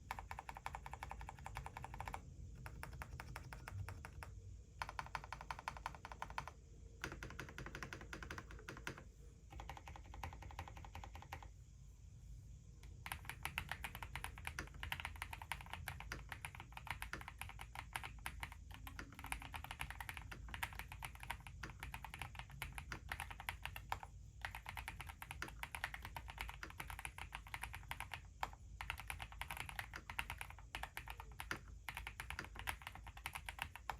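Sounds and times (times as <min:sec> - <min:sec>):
mechanical keyboard typing: 0:00.0 - 0:11.5, 0:12.9 - 0:33.9.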